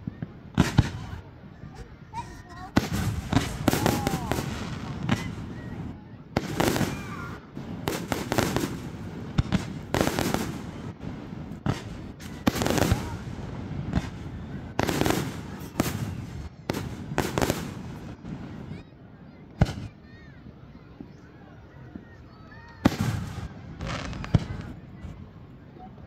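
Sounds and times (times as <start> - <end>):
fireworks crackling: 0.0 - 18.8, 19.4 - 20.0, 22.7 - 25.4
fireworks bursting: 0.0 - 20.1, 21.9 - 25.4.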